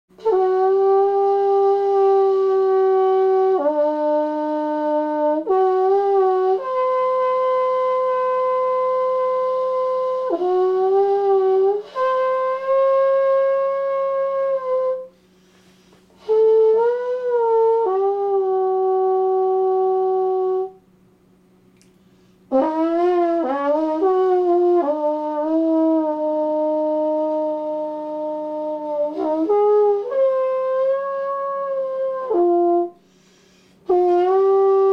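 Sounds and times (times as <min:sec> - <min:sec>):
faint steady hum: 0:00.1 - 0:34.9
trombone playing solo: 0:00.2 - 0:15.2, 0:16.2 - 0:20.8, 0:22.5 - 0:34.9.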